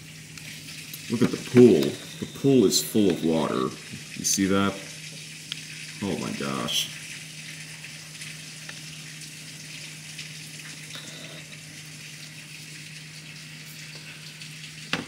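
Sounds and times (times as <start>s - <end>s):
low steady hum: 0.0s - 15.0s
rain on pool and patio: 0.0s - 15.0s.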